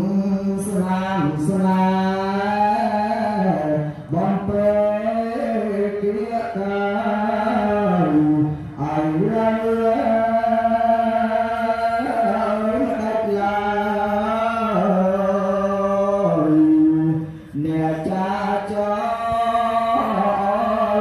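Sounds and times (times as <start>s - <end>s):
person chanting: 0.0s - 21.0s.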